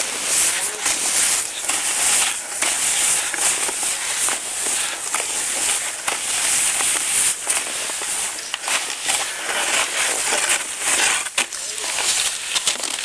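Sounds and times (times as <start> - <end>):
sharp snow crackles: 0.0 - 13.0
snow scraping hiss: 0.0 - 13.0.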